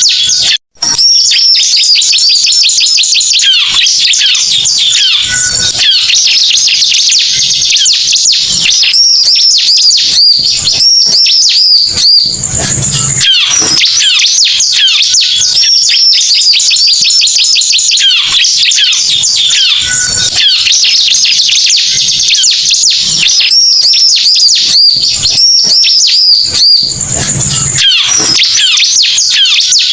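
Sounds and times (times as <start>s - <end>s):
bird chirps and trills: 0.0s - 29.9s
bird whistled notes: 0.0s - 29.9s.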